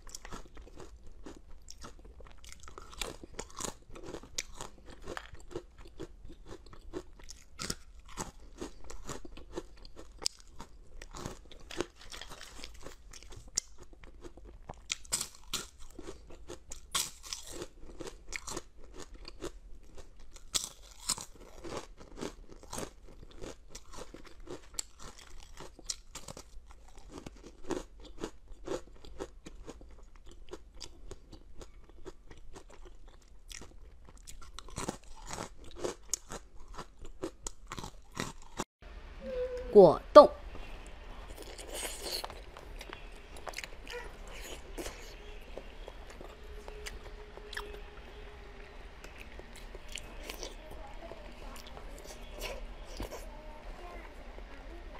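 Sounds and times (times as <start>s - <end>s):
crunching crisp snacks: 0.0s - 38.6s, 41.3s - 53.3s.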